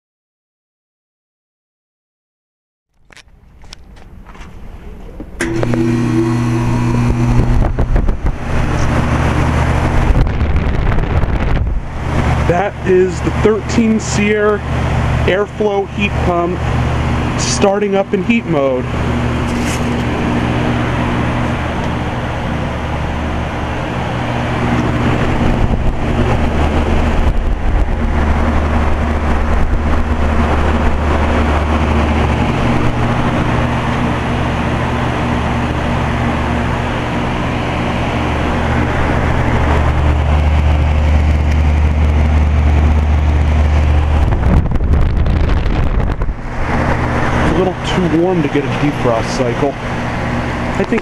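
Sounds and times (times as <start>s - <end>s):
compressor low hum: 3.0s - 51.0s
fan rushing air: 3.0s - 51.0s.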